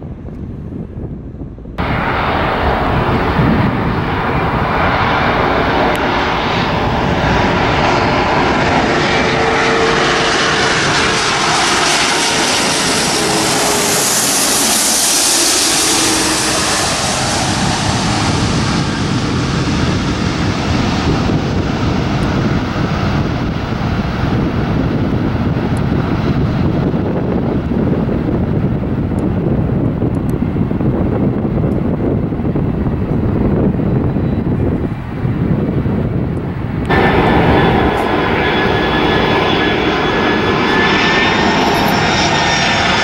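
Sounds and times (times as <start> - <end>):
jet engines passing overhead: 0.0 - 43.0.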